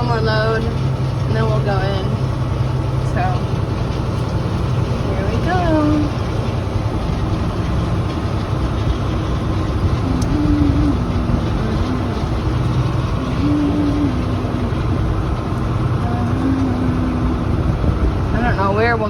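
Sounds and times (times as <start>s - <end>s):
faint whine: 0.0s - 19.0s
tractor diesel engine running: 0.0s - 19.0s.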